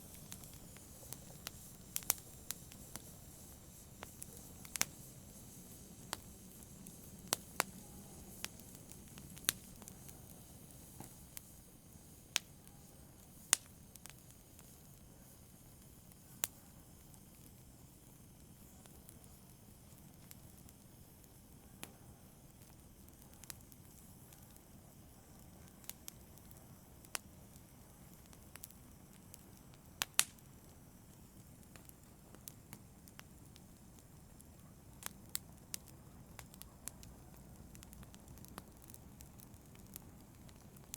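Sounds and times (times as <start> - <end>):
soft steady hiss: 0.0 - 40.9
wood fire crackling: 0.0 - 40.9.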